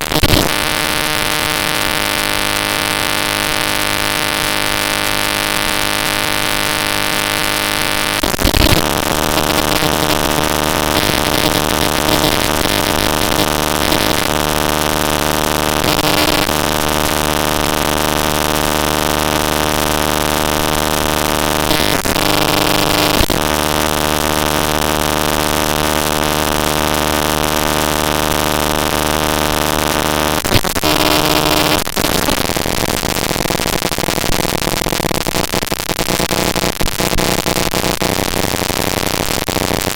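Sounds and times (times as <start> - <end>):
dense noise with buzzing tones: 0.0 - 39.9.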